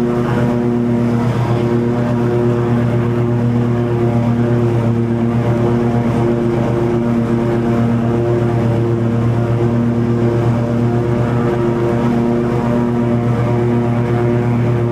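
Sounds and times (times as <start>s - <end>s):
lawn mower cutting grass: 0.0s - 14.9s.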